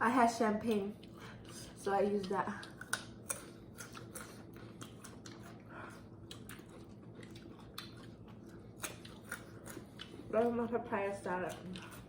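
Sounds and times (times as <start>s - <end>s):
person chewing and crunching food: 0.4s - 12.0s.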